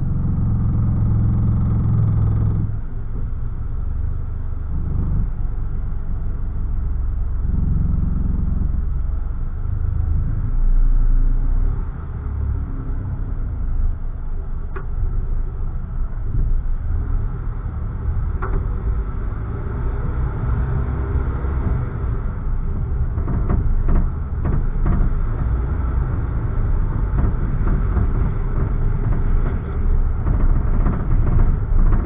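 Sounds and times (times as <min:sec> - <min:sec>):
road and engine rumble inside car: 0:00.0 - 0:32.0.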